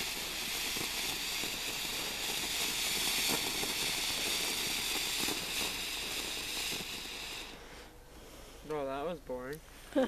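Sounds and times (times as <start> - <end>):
firework fountain hissing: 0.0 - 10.0.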